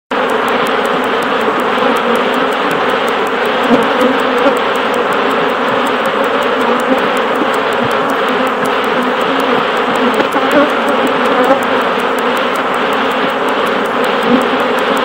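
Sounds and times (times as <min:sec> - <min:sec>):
honeybees buzzing: 0:00.1 - 0:15.0.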